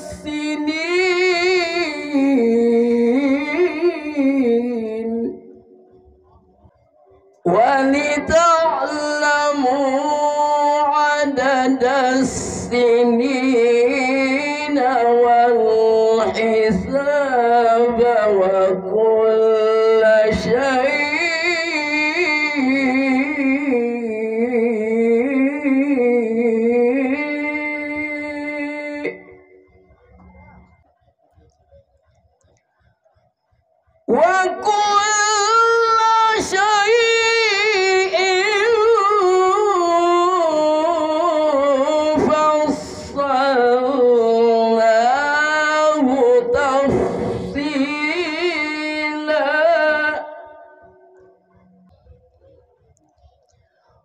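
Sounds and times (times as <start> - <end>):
man chanting recitation: 0.0 - 32.5, 34.0 - 51.2.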